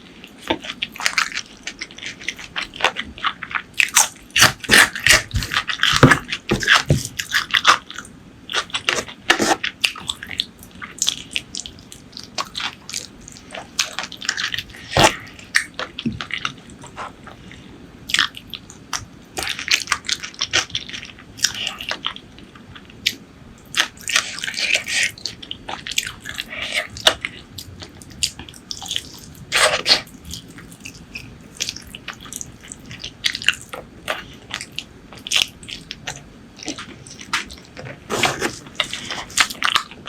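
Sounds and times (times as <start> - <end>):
person crunching and chewing food: 0.0 - 40.0.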